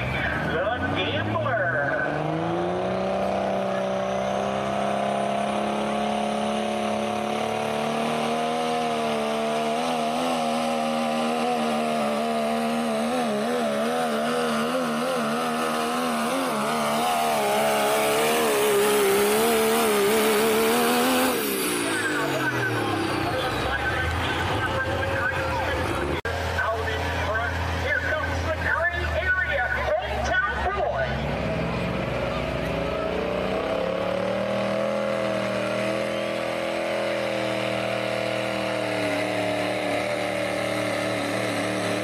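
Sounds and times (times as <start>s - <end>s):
diesel truck engine revving: 0.0s - 42.0s.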